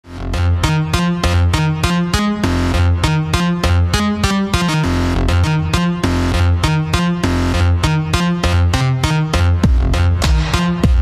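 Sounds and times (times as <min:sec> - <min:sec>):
electronic music with steady beat: 0:00.0 - 0:11.0
synth bass: 0:00.0 - 0:11.0
keyboard chords: 0:00.1 - 0:11.0.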